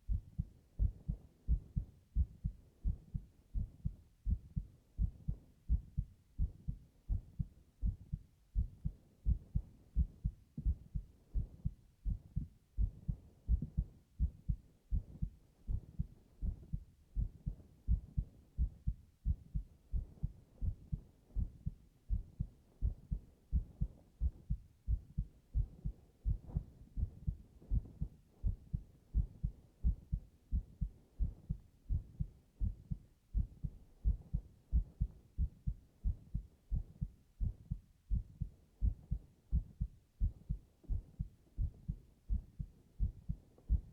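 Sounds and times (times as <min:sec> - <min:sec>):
heartbeat thuds: 0:00.0 - 0:43.9.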